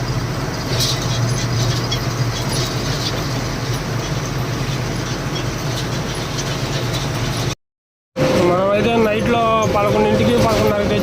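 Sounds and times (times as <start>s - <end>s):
road noise: 0.0s - 7.6s, 8.2s - 11.0s
truck engine running: 0.0s - 7.6s, 8.2s - 11.0s.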